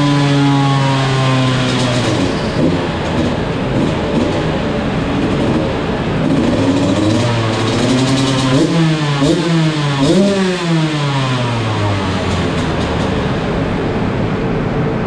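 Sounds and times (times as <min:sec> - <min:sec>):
two-stroke engine running: 0:00.0 - 0:13.6.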